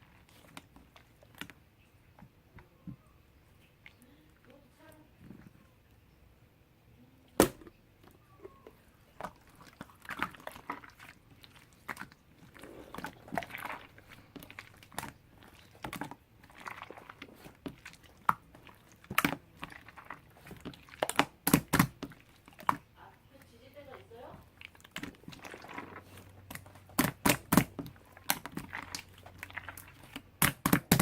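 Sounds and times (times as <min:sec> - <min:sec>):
slime squishing: 0:00.0 - 0:05.7, 0:07.4 - 0:31.0.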